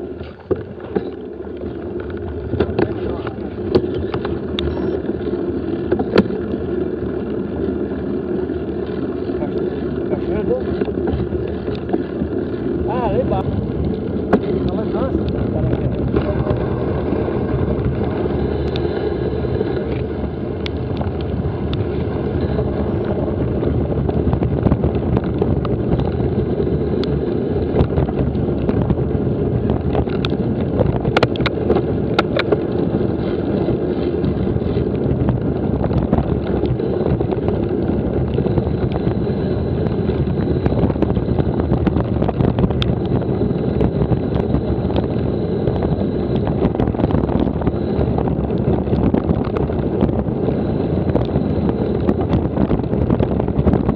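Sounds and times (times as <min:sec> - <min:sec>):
sharp clicks and rattles: 0:00.0 - 0:53.9
wind buffeting microphone: 0:00.0 - 0:53.9.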